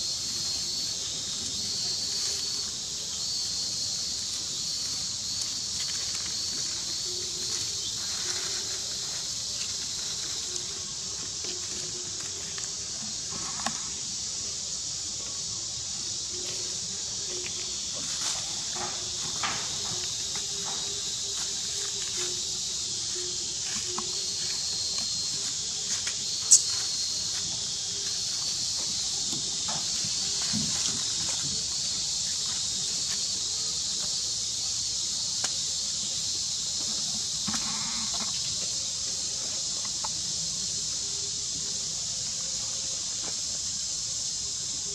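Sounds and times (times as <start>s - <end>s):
insect chorus droning: 0.0s - 44.9s.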